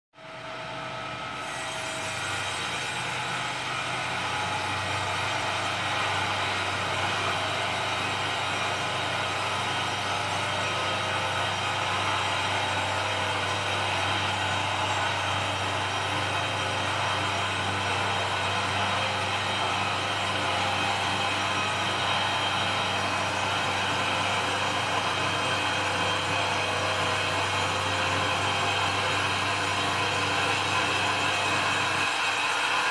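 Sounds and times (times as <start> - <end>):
band sawmill humming and hissing: 0.3 - 32.9.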